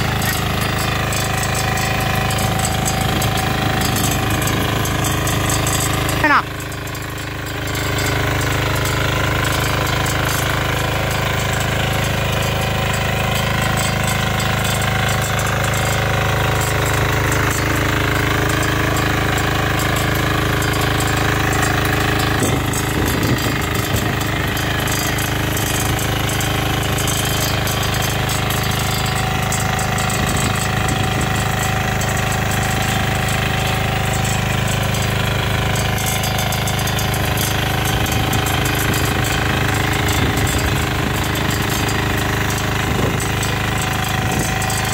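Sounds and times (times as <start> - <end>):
power weeder engine chugging: 0.0 - 44.9.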